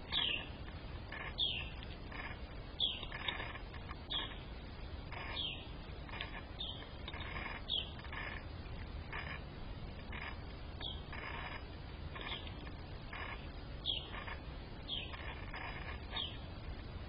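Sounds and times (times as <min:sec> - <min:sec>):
soft scratchy sounds: 0:00.0 - 0:17.0.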